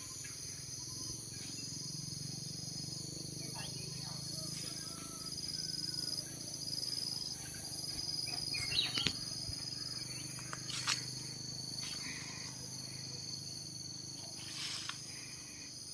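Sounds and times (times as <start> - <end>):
insect chorus trilling: 0.0 - 15.9.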